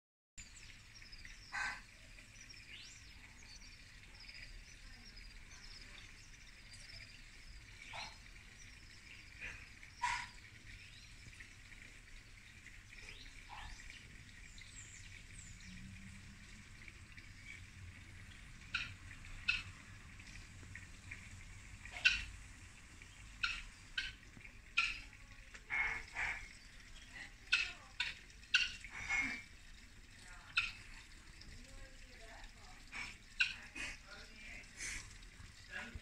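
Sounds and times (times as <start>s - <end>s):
small birds chirping: 0.4s - 36.0s.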